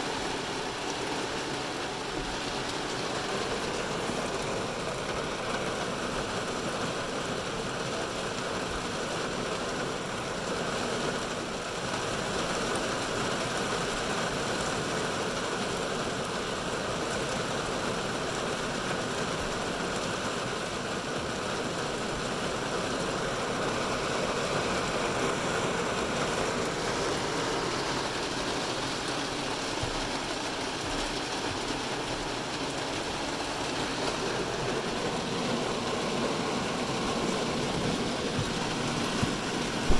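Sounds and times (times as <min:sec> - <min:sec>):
heavy rain on a car roof: 0:00.0 - 0:39.9.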